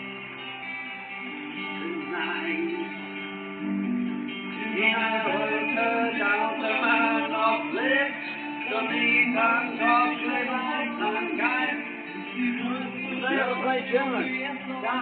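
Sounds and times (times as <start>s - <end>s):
guitar: 0.0s - 15.0s
man singing: 1.3s - 15.0s.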